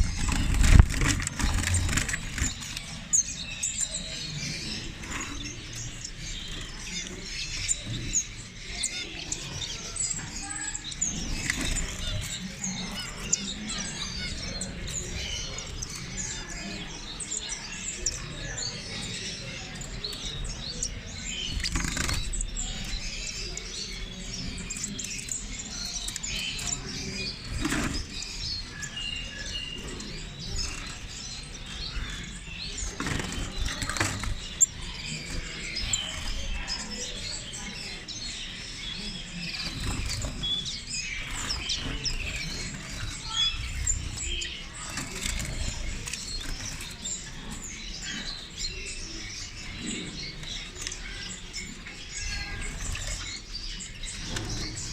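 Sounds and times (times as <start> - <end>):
caged birds chirping: 0.0 - 54.9
wings fluttering against cages: 0.0 - 54.9.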